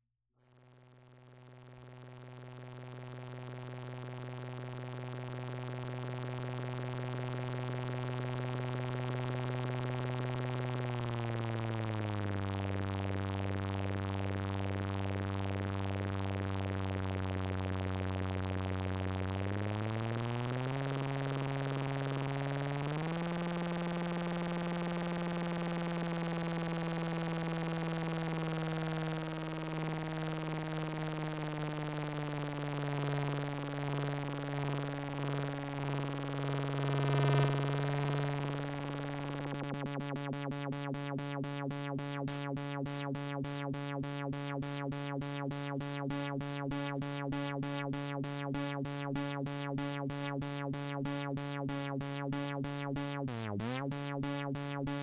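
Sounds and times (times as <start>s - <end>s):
buzzy synthesizer note: 2.2s - 55.0s.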